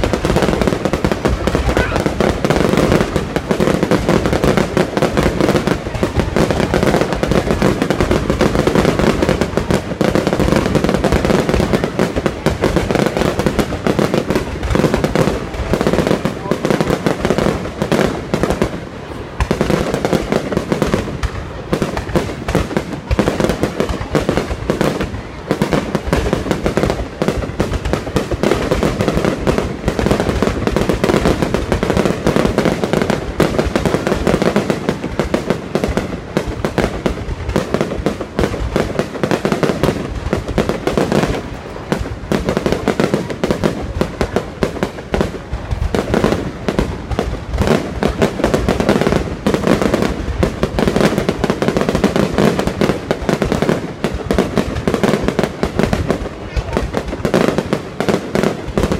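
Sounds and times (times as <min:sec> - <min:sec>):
fireworks bangs and crackles: 0:00.0 - 0:58.9.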